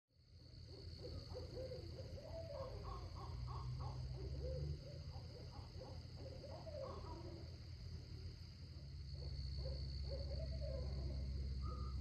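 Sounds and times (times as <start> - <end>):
animal calling: 0.7 - 7.6, 9.2 - 12.0.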